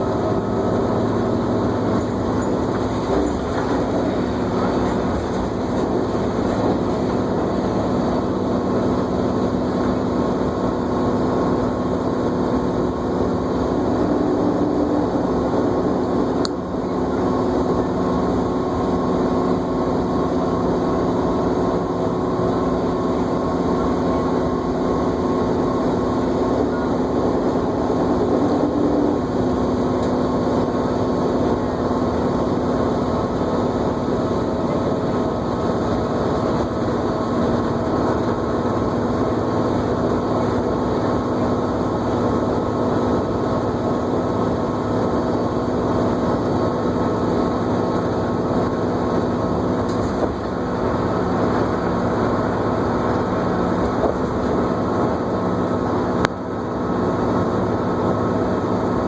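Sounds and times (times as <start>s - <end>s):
bus engine whine: 0.0s - 59.0s
road rumble: 0.0s - 59.0s.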